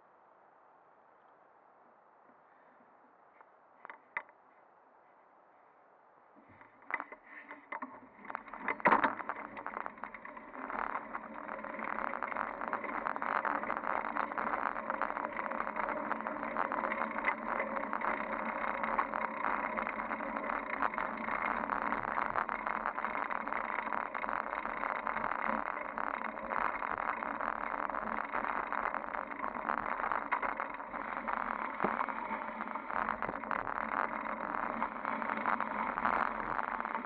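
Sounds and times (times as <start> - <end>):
faint clicks: 2.2 - 4.6, 6.4 - 37.0
bicycle rattle: 6.4 - 37.0
rolling road noise: 6.4 - 37.0.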